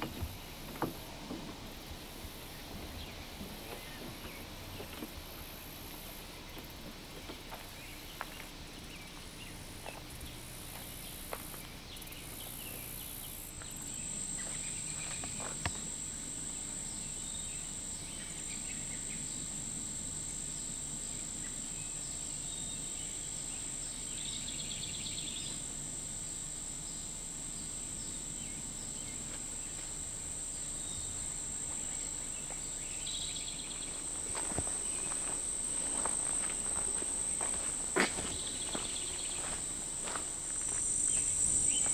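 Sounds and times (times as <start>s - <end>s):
faint outdoor background: 0.0s - 41.9s
insect pulsed calls: 0.0s - 41.9s
insects trilling: 0.0s - 41.9s.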